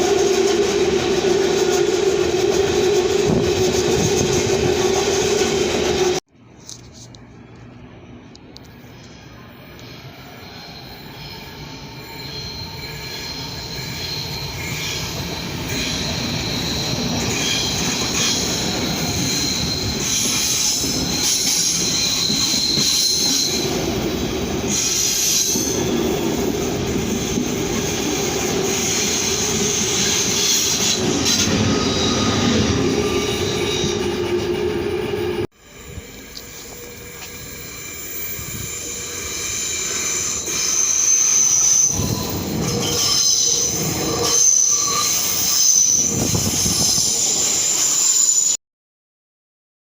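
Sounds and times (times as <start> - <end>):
train rumble: 0.0 - 48.0
train wheels squealing on rails: 8.5 - 48.6.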